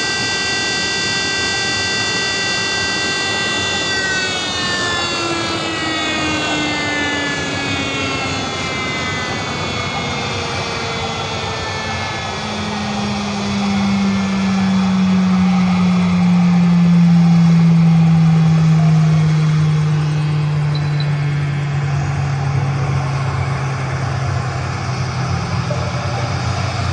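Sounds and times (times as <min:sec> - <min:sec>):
jet engines whining: 0:00.0 - 0:26.9
strong low hum: 0:00.0 - 0:26.9.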